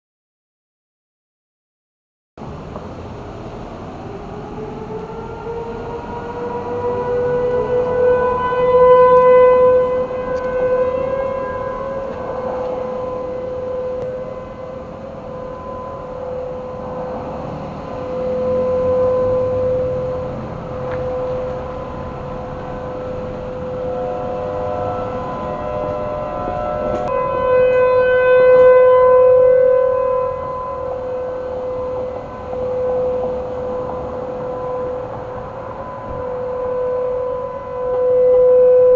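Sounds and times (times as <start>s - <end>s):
outdoor warning sirens: 2.4s - 38.9s.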